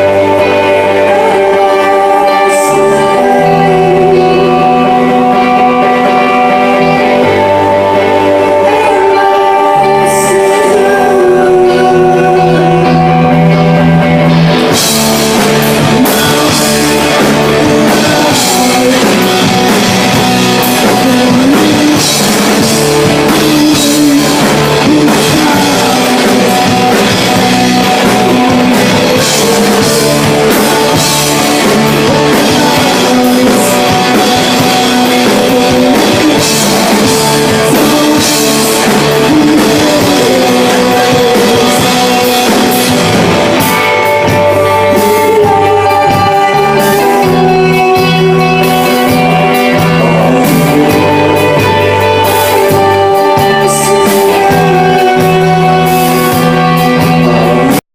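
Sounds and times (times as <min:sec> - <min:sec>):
drum kit with cymbal hits: 0:00.0 - 0:57.8
electric guitar: 0:00.0 - 0:57.8.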